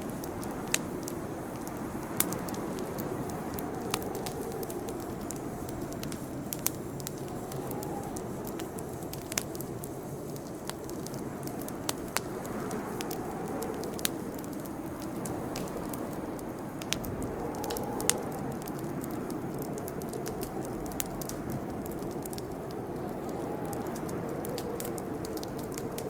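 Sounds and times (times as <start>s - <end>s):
campfire flames rushing: 0.0s - 26.0s
fire crackling and popping: 0.0s - 26.0s.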